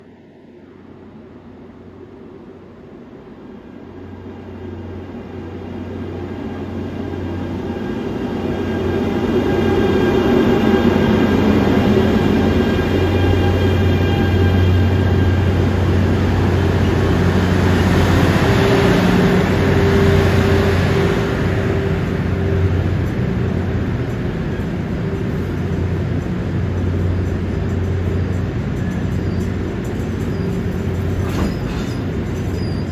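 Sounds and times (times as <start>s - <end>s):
train rumbling: 0.3s - 32.9s.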